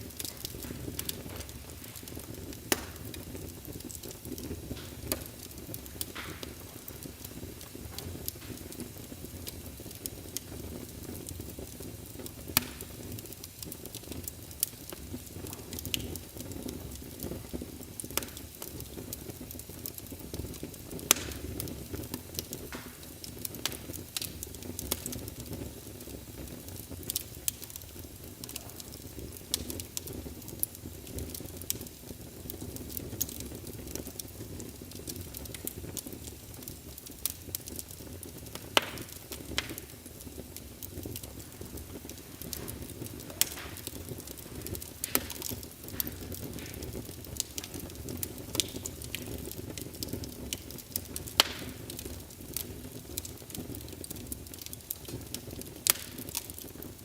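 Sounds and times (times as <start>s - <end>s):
burning wood crackling and popping: 0.0s - 57.0s
low rumble of flames: 0.0s - 57.0s.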